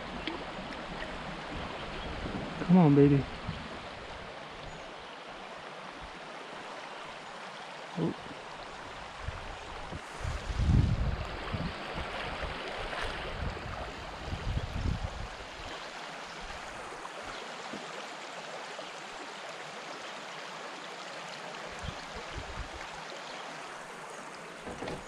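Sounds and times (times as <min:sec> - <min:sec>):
river water rippling over gravel: 0:00.0 - 0:25.0.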